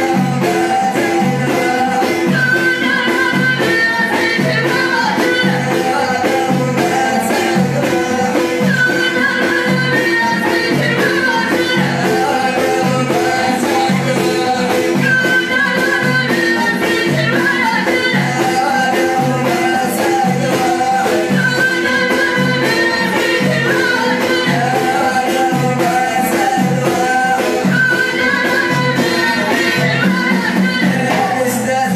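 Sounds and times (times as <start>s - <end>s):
frame drums beating: 0.0s - 31.9s
man singing: 0.0s - 31.9s.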